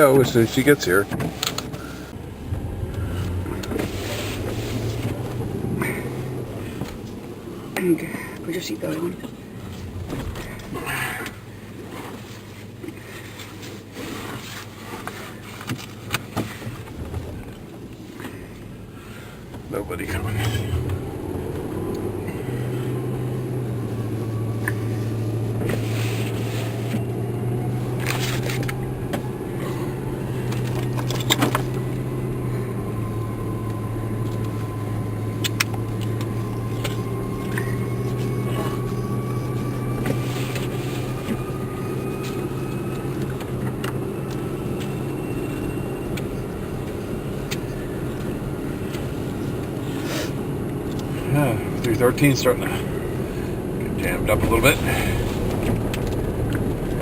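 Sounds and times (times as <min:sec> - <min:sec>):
car engine and road hum: 0:00.0 - 0:57.0.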